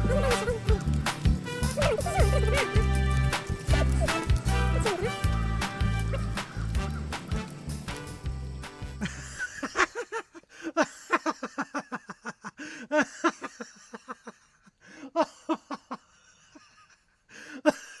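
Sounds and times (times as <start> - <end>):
person laughing: 0.0 - 7.3, 9.0 - 18.0.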